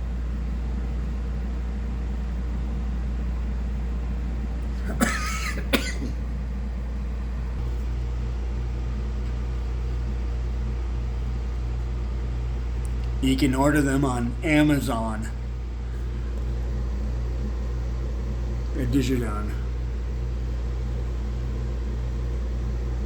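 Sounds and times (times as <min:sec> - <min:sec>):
air conditioners humming: 0:00.0 - 0:23.0.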